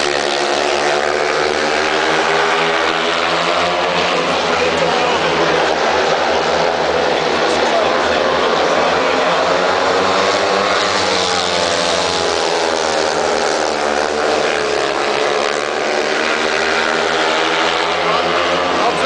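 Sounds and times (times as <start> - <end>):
motorcycle engines racing: 0.0 - 19.0.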